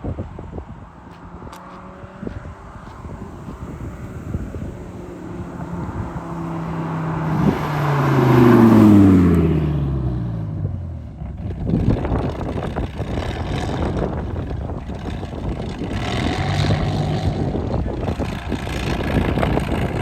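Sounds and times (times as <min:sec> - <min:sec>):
wind noise: 0:00.0 - 0:20.0
sports car driving past: 0:00.1 - 0:20.0.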